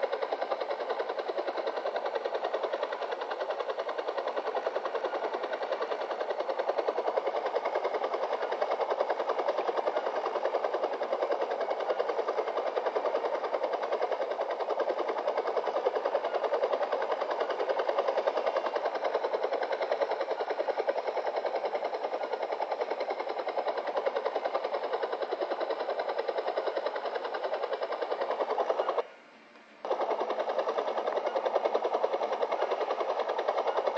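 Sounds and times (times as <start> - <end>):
mechanical drone with flutter: 0.0 - 33.9.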